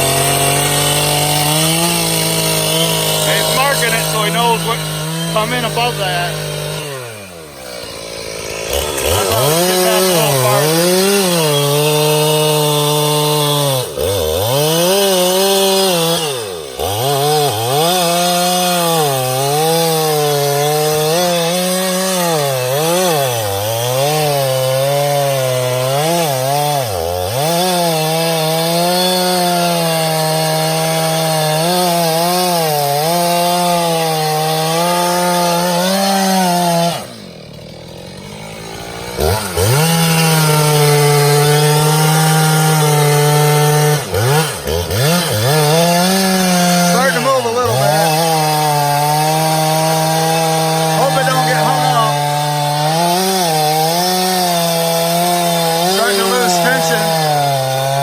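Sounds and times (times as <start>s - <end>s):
chainsaw cutting through wood: 0.0s - 58.0s.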